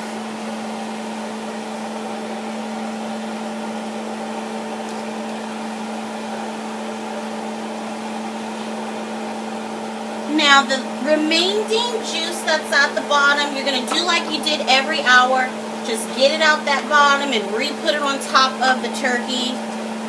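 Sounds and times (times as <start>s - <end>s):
steady motor hum with hiss: 0.0s - 20.0s.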